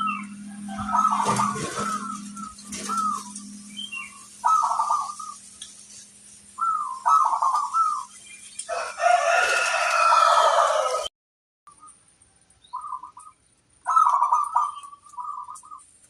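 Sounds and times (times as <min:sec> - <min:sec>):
chorus of birds calling: 0:00.0 - 0:11.1, 0:12.6 - 0:16.0
doves cooing: 0:00.0 - 0:11.1, 0:12.8 - 0:15.9.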